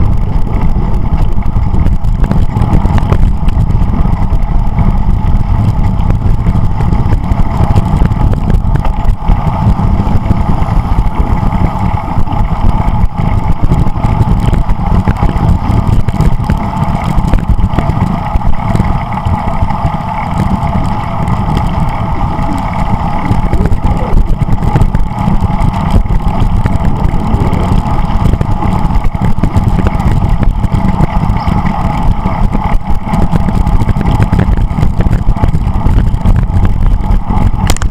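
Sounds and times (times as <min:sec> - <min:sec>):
bicycle tyre road noise: 0:00.0 - 0:37.9
wind on microphone: 0:00.0 - 0:37.9.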